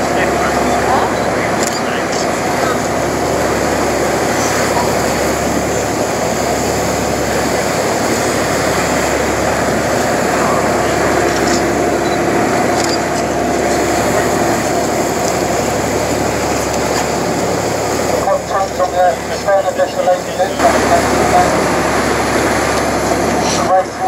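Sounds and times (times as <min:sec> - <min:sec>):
motor boat engine drone: 0:00.0 - 0:24.0.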